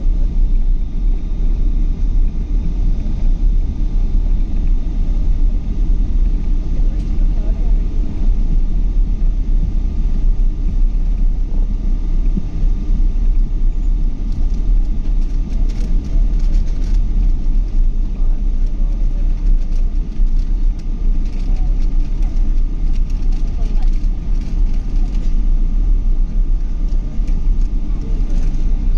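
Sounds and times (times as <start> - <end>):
airplane cabin engine rumble: 0.0 - 28.9
faint steady whine: 0.0 - 28.9.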